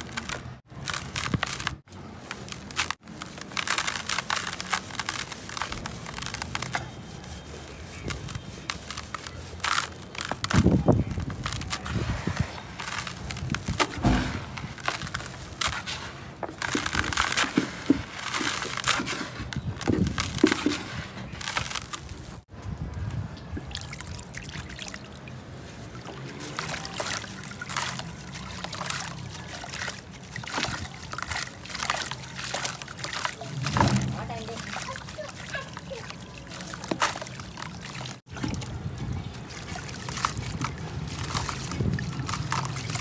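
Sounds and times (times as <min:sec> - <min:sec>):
chunks squeezed under water sloshing: 0:00.0 - 0:43.0
crumbs pattering into water: 0:00.0 - 0:43.0.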